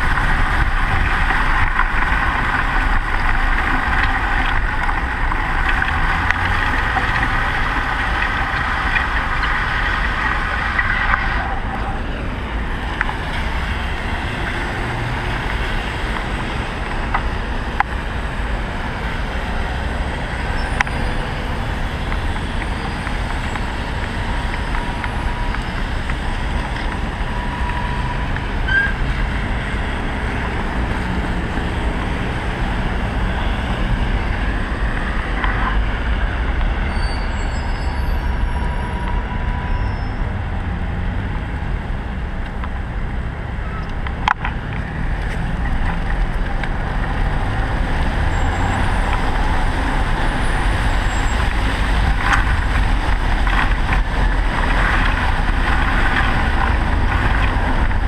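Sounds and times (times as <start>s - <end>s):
wind rumble on microphone: 0.0s - 37.4s, 38.0s - 58.0s
vehicles passing: 0.0s - 58.0s.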